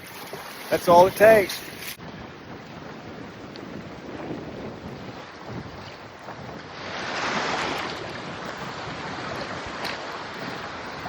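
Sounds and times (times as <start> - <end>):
choppy river water: 0.0 - 11.0
wind buffeting microphone: 0.0 - 11.0.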